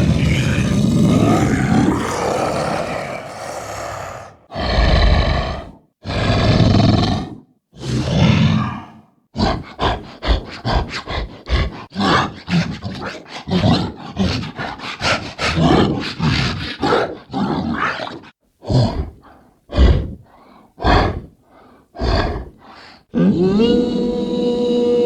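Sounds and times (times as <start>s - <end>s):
creature growling and snarling: 0.0s - 21.4s, 22.0s - 25.0s.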